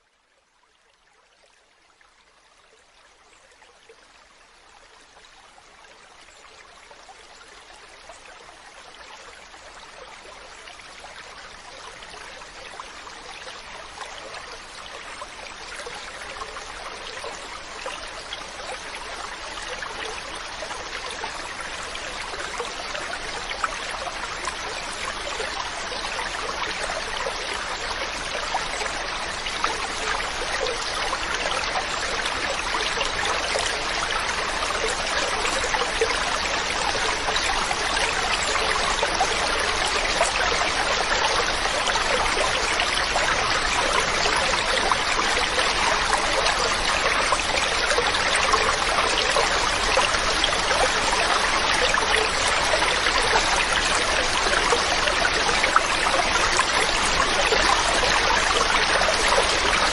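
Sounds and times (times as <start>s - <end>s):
stream water rushing: 4.5s - 59.9s.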